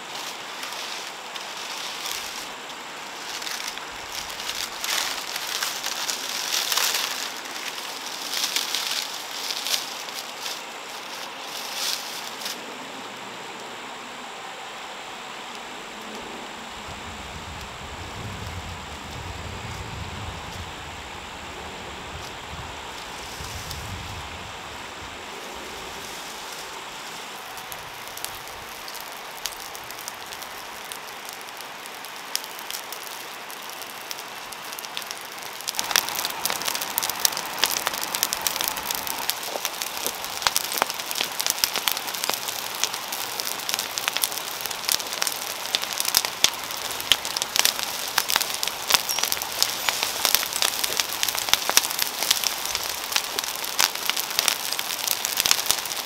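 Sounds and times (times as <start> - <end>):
brush fire crackling and popping: 0.0 - 14.1, 14.8 - 56.0
soft steady fire hiss: 0.0 - 56.0.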